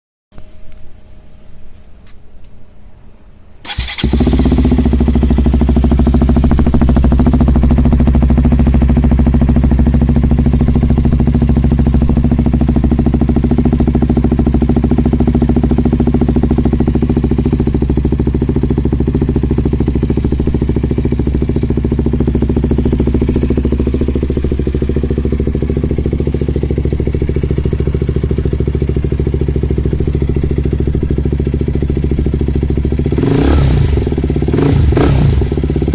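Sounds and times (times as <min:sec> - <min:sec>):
motorcycle engine starting and idling: 0:03.6 - 0:35.9.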